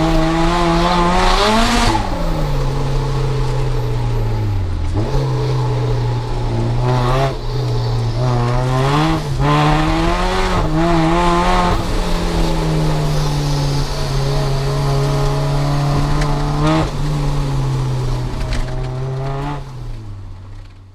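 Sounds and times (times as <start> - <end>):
tyre squeal: 0.0 - 19.8
car engine revving hard: 0.0 - 20.8.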